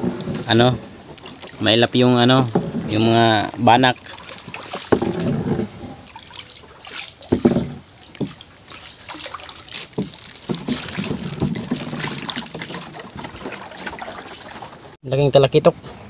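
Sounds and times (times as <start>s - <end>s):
water trickling and sloshing: 0.0s - 15.0s.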